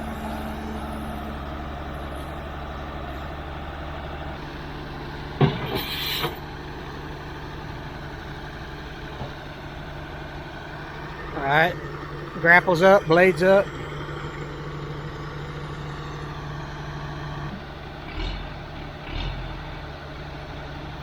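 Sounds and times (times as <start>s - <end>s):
diesel equipment idling: 0.0s - 21.0s.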